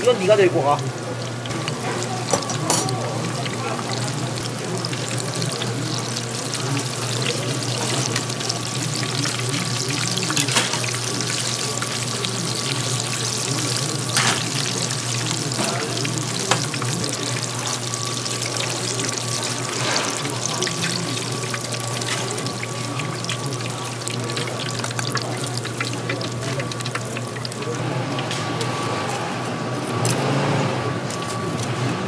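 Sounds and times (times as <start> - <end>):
food deep-frying in oil: 0.0 - 29.2, 30.0 - 31.9.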